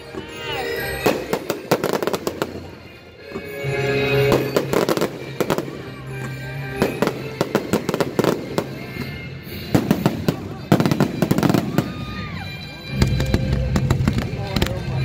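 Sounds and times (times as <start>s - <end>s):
background music: 0.0s - 15.0s
fireworks bursting and crackling: 0.0s - 15.0s.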